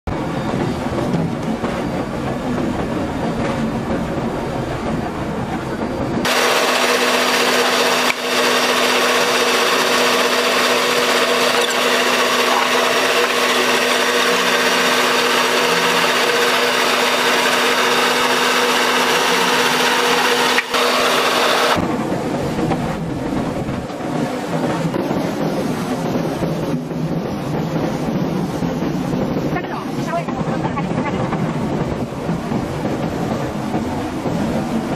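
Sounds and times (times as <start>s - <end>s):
vegetable washing machine droning: 5.9s - 34.9s.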